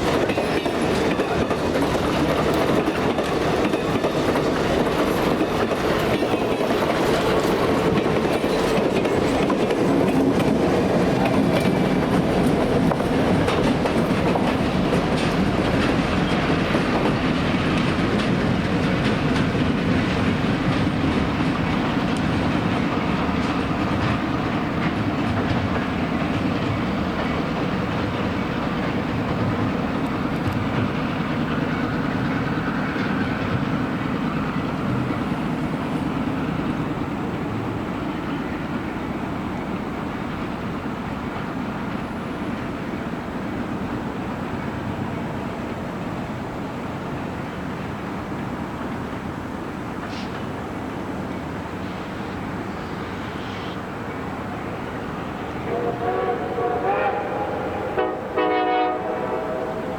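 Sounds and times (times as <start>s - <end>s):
train wheels clicking over rail joints: 0.0s - 56.4s.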